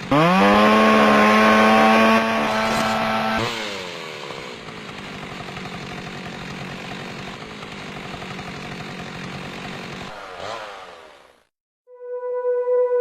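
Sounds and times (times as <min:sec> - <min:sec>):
chainsaw running at high revs: 0:00.0 - 0:11.5.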